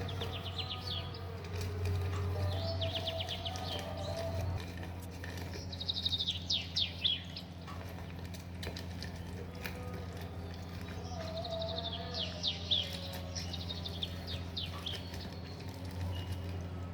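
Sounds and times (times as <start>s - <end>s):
bird chirping: 0.0s - 16.9s
steady low hum: 0.0s - 16.9s.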